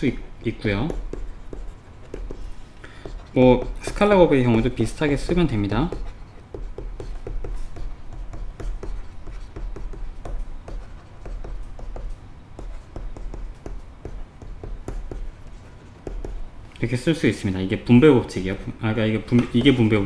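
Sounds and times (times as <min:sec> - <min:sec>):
stylus tapping and scratching tablet: 0:00.5 - 0:16.5, 0:19.2 - 0:20.0.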